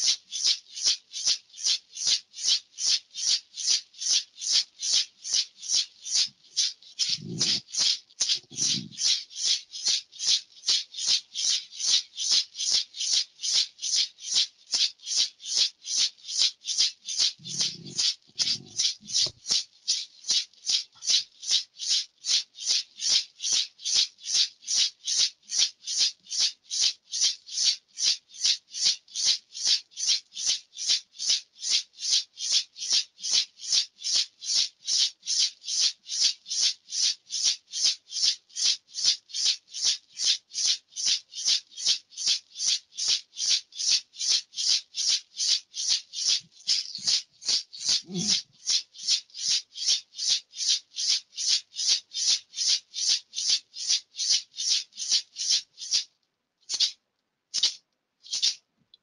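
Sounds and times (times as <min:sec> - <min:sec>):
hand rattle shaking: 0:00.0 - 0:56.1, 0:56.7 - 0:58.6.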